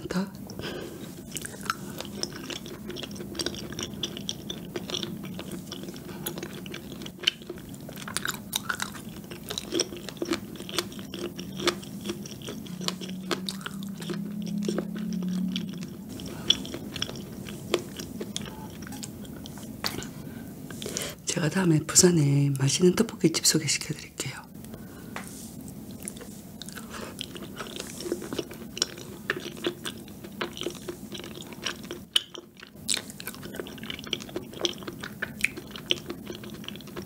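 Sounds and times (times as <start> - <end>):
low hum: 0.0 - 30.8
chewing with mouth clicks: 0.4 - 21.0, 25.7 - 37.0.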